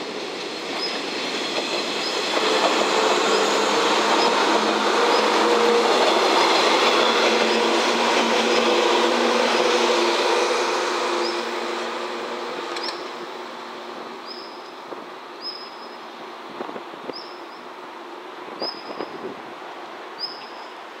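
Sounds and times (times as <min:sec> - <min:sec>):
electric train rumble and hum: 0:00.0 - 0:21.0.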